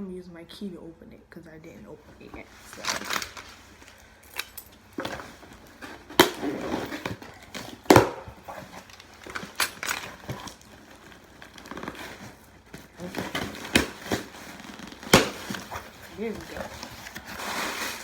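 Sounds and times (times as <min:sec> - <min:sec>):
plastic wrap crinkling and scraping: 0:02.3 - 0:18.0.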